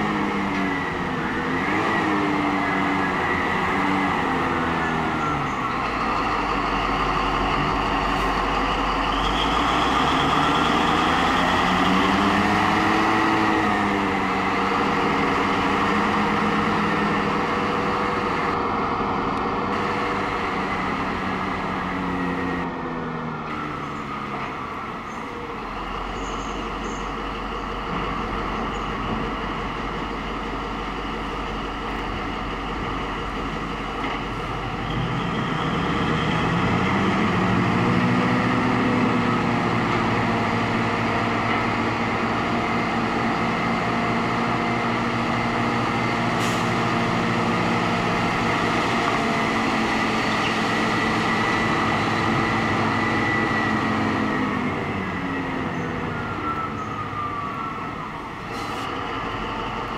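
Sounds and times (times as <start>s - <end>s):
diesel truck engine idling and revving: 0.0s - 59.9s.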